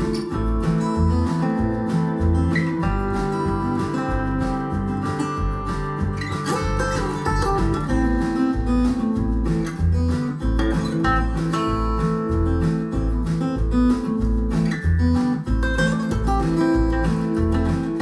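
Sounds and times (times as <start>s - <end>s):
bass line: 0.0s - 18.0s
strummed acoustic guitar: 0.0s - 18.0s.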